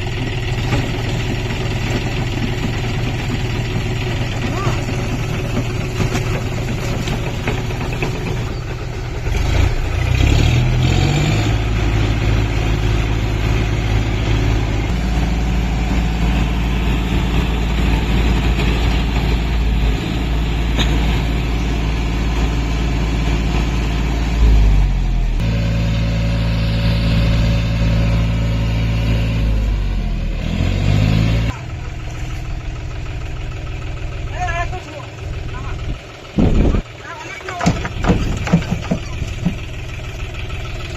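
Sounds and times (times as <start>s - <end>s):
tractor diesel engine revving: 0.0s - 40.9s.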